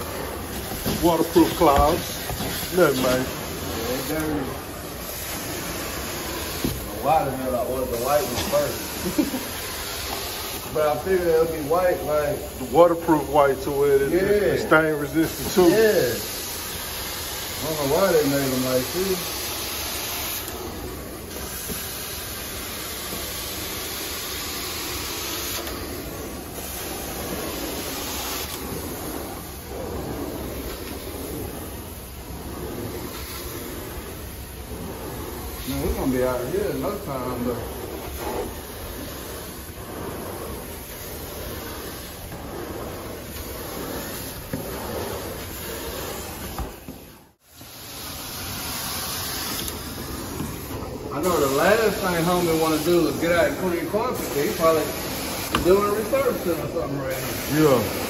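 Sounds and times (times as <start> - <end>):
carpet extraction wand hissing: 0.0 - 58.0.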